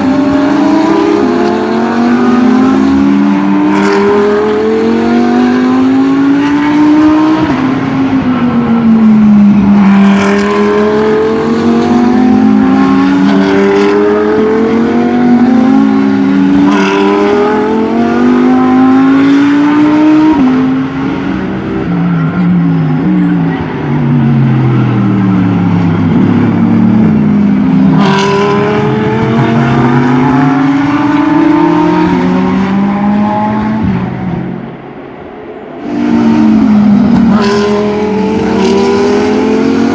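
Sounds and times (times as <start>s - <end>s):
race car engines at full throttle: 0.0s - 39.9s.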